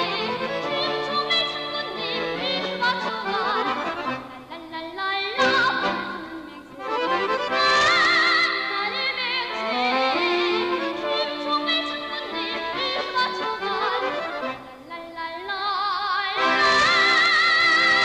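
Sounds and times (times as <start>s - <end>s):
instrumental accompaniment: 0.0s - 4.3s, 5.4s - 14.6s, 16.4s - 18.0s
boy singing with vibrato: 0.0s - 18.0s.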